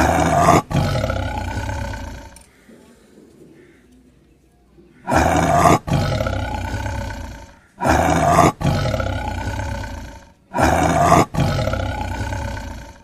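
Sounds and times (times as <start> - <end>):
lion roar: 0.0 - 2.5, 5.0 - 13.0.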